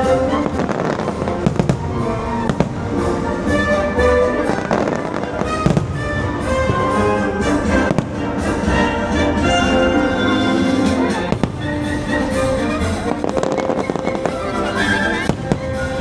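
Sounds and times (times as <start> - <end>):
fireworks bangs and crackles: 0.0 - 16.0
music soundtrack: 0.0 - 16.0.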